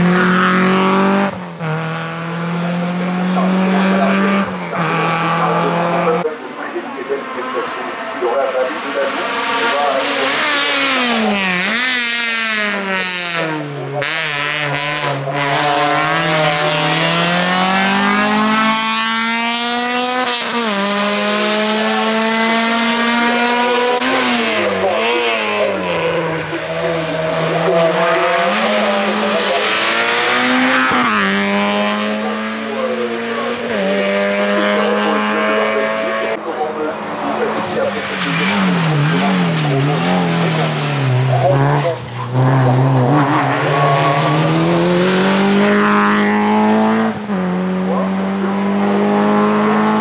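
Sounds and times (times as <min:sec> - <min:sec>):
race car engine revving: 0:00.0 - 0:50.0.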